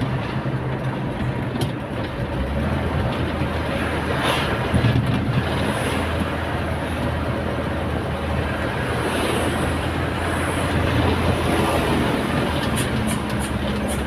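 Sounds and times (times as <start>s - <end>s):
rushing road noise: 0.0s - 14.0s
truck engine humming: 0.0s - 14.0s.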